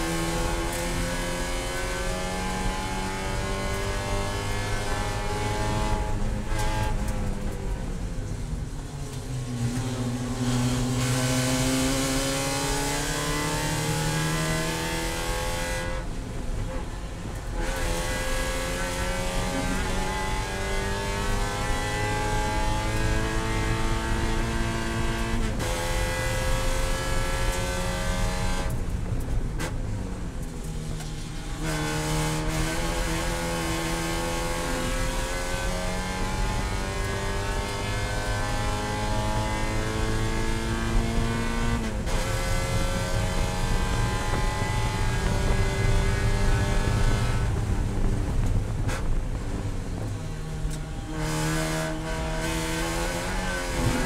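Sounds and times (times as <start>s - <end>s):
race car engine revving: 0.0s - 7.5s, 9.2s - 29.8s, 31.4s - 54.0s.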